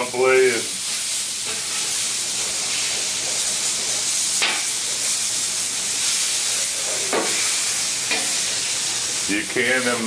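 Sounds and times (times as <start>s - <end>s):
steaks sizzling on a griddle: 0.0s - 10.0s
spatula scraping griddle: 0.9s - 10.0s.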